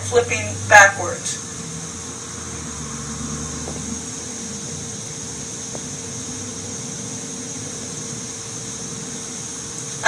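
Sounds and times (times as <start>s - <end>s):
faint hum: 0.0s - 10.0s
steady background hiss: 0.0s - 10.0s.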